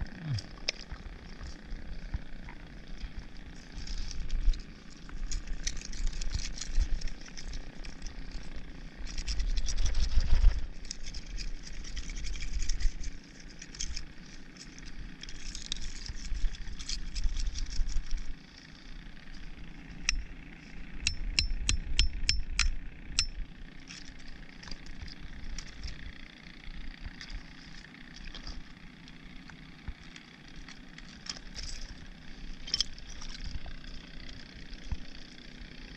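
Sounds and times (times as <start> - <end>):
oyster shells scraping and clicking: 3.0 - 18.4, 21.0 - 26.1, 27.0 - 35.4.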